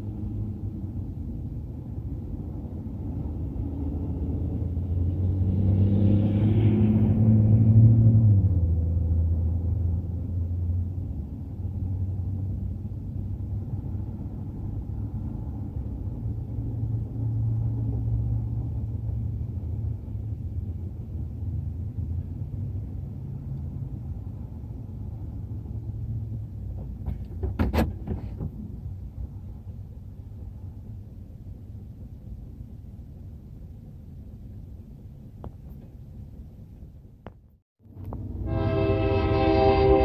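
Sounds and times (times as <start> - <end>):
freight train rumbling: 0.0 - 37.2, 37.8 - 40.0.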